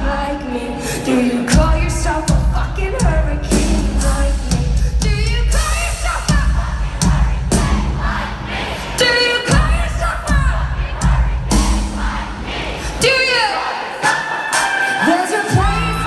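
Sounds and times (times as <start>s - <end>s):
crowd voices: 0.0s - 16.0s
woman singing amplified: 0.0s - 16.0s.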